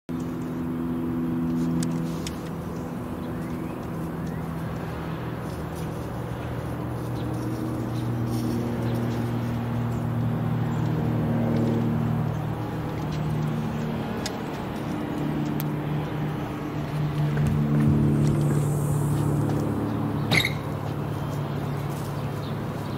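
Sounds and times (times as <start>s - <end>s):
propeller plane droning overhead: 0.1s - 22.9s.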